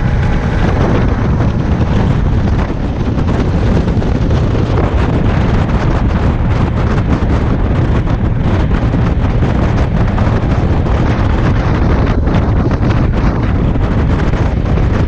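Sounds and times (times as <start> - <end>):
boat motor: 0.0 - 15.0
water rushing under hull: 0.0 - 15.0
wind buffeting microphone: 0.0 - 15.0.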